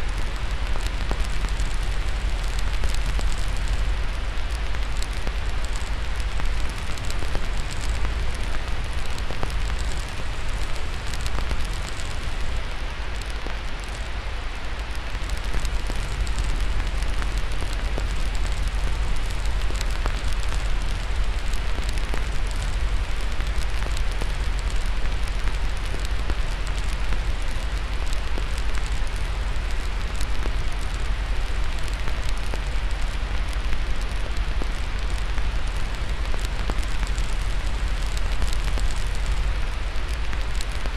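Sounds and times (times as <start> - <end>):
fire crackling: 0.0 - 40.9
white noise hiss: 0.0 - 40.9.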